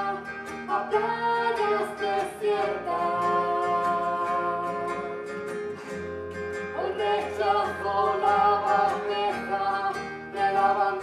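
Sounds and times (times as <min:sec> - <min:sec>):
person singing: 0:00.0 - 0:05.5, 0:06.8 - 0:11.0
guitar: 0:00.0 - 0:11.0.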